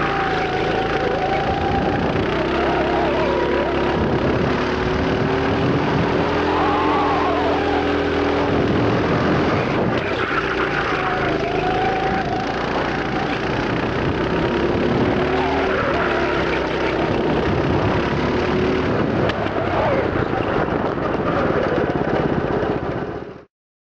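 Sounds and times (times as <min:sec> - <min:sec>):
kart engine running: 0:00.0 - 0:23.5.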